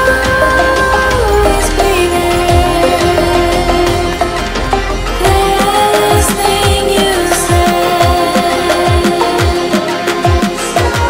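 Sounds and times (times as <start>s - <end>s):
deep regular beat: 0.0s - 11.0s
music with held tones: 0.0s - 11.0s.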